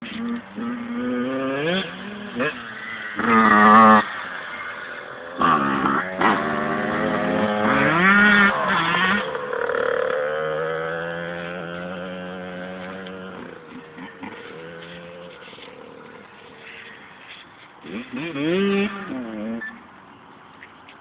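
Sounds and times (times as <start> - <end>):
motorbike engine revving: 0.0 - 19.8.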